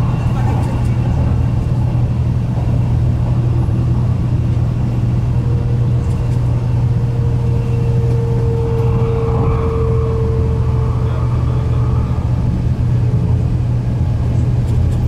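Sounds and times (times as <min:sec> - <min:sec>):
steady whine: 0:00.0 - 0:15.0
train cabin low rumble: 0:00.0 - 0:15.0.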